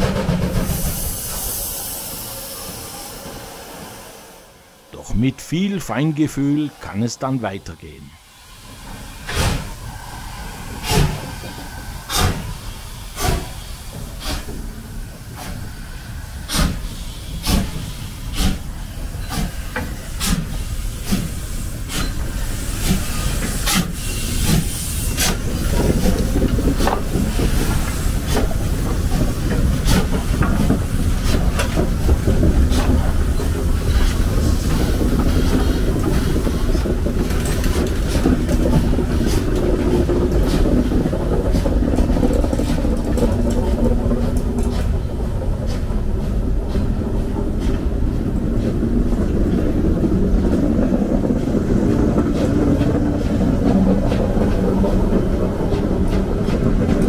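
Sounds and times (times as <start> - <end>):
hissing steam: 0.0 - 57.0
locomotive rumbling past: 0.0 - 57.0
steam locomotive exhaust chuffs: 0.0 - 57.0.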